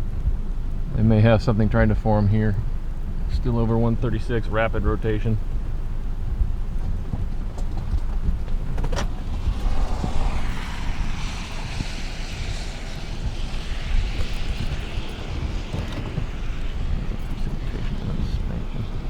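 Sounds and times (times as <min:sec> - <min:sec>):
rushing storm wind: 0:00.0 - 0:19.0
wind buffeting microphone: 0:00.0 - 0:19.0.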